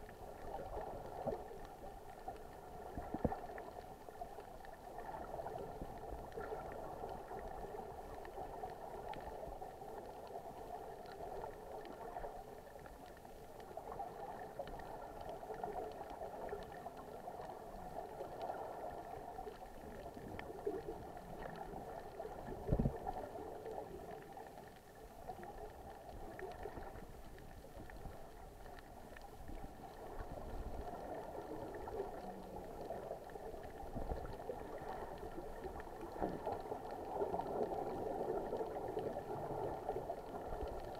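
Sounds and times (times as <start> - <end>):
underwater bubbling and gurgling: 0.0 - 40.9.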